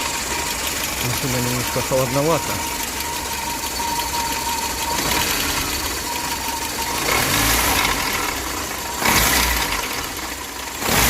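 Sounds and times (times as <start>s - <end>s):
car engine idling: 0.0s - 11.0s
engine knocking and grinding: 0.0s - 11.0s.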